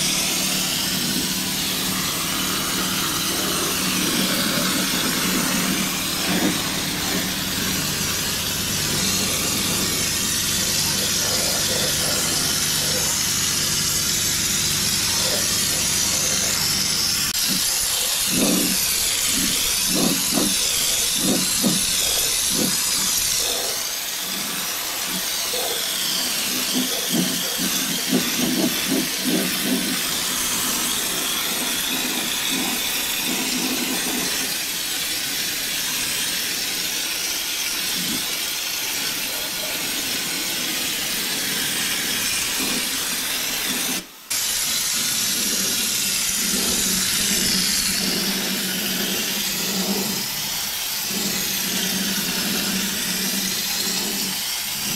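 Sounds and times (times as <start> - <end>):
compressed air spray gun hissing: 0.0 - 54.9
low sputter: 0.0 - 54.9.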